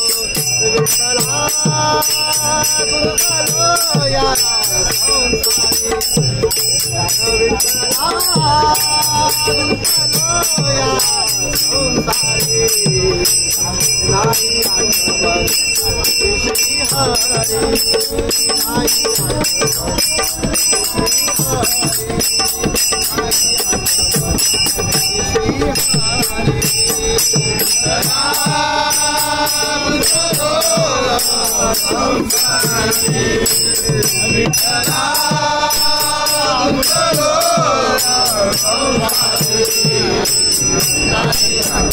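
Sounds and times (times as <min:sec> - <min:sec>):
brass hand cymbals ringing: 0:00.0 - 0:41.9
group of men singing: 0:00.0 - 0:41.9.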